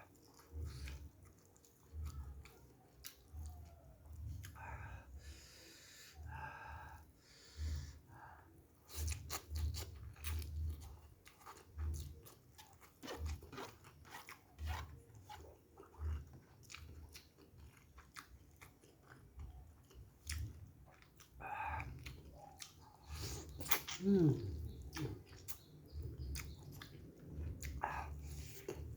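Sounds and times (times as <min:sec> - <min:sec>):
chewing and biting: 0:00.0 - 0:04.6, 0:08.8 - 0:28.9.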